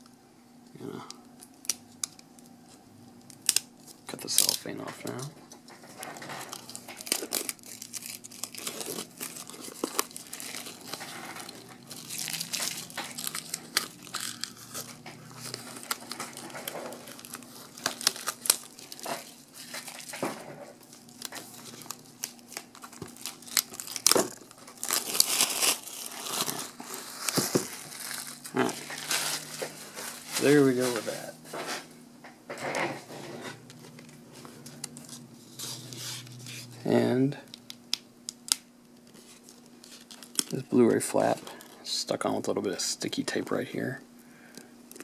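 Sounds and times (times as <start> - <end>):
plastic wrap crinkling and tearing: 0.8 - 31.9, 33.6 - 43.9, 44.5 - 45.0.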